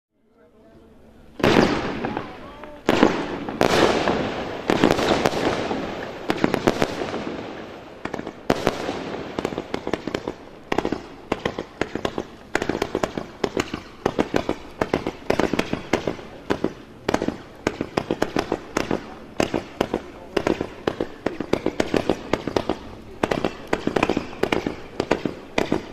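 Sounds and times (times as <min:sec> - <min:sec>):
fireworks bursts with crackle: 0:01.3 - 0:25.9
sharp firework pops: 0:01.4 - 0:25.9.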